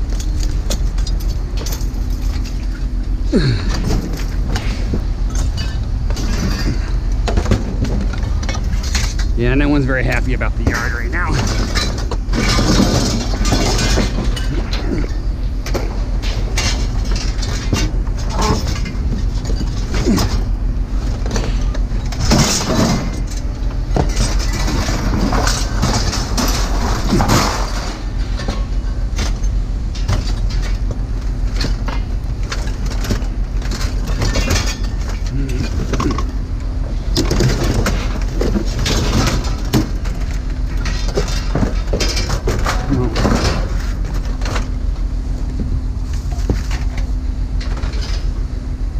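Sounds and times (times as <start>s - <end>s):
engine idling hum: 0.0s - 48.9s
scrap metal clanking: 0.1s - 36.4s, 37.0s - 44.8s.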